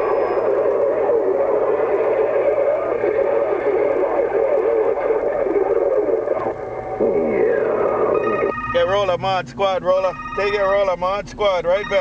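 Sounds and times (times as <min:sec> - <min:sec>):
garbled radio transmission: 0:00.0 - 0:12.0
radio static: 0:00.0 - 0:12.0.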